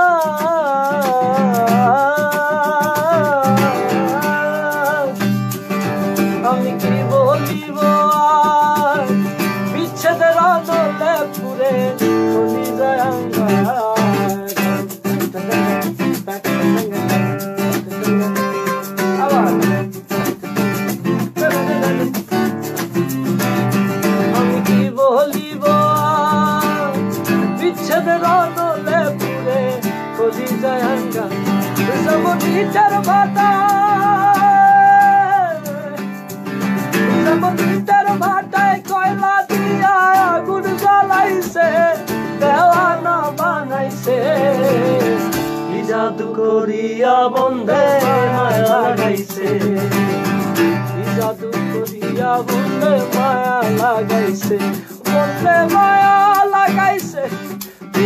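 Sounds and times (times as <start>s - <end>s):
man singing with vibrato: 0.0s - 58.0s
strummed acoustic guitar: 0.0s - 58.0s.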